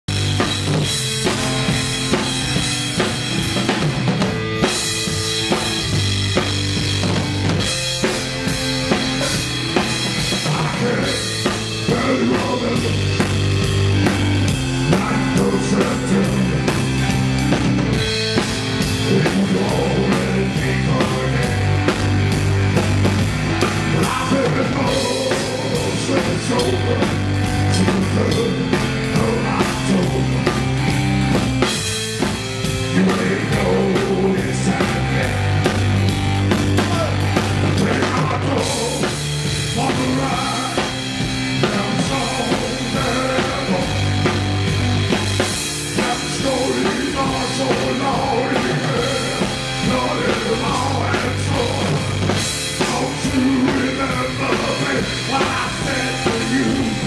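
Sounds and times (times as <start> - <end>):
drum kit playing a steady beat: 0.0 - 57.0
electric keyboard bass riff: 0.0 - 57.0.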